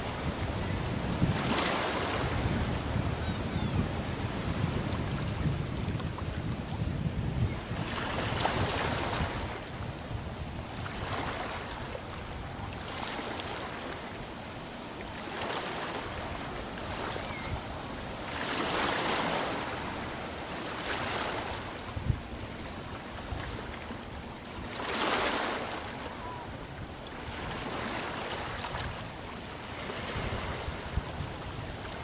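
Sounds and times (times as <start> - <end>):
water rushing in boat wake: 0.0 - 32.0
wind on microphone: 0.0 - 32.0.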